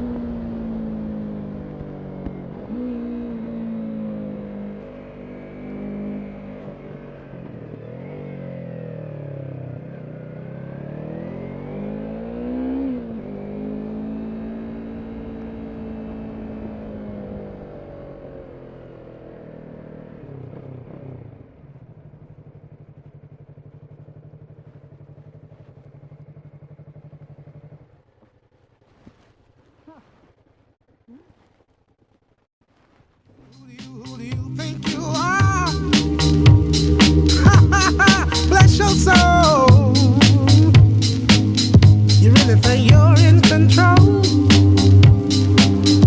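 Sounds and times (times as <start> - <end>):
motorcycle engine running: 0.0 - 28.8, 33.4 - 46.0.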